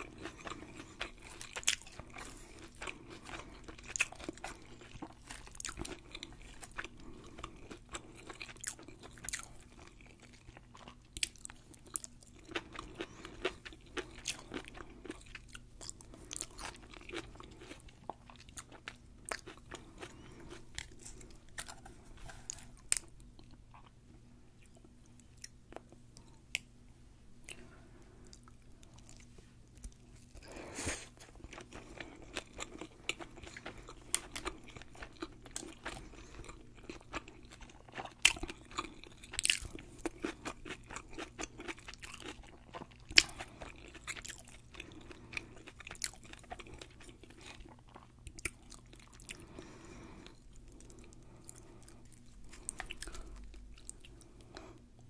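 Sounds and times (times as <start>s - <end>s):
crunching and chewing food: 0.0s - 26.8s, 27.4s - 55.0s.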